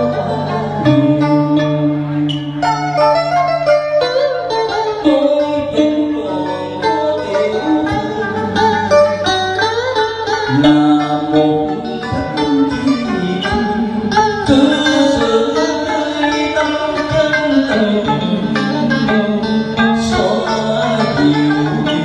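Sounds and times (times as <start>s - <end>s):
man singing into microphone: 0.0s - 2.6s, 4.9s - 9.2s, 10.5s - 22.0s
plucked guitar: 0.0s - 22.0s.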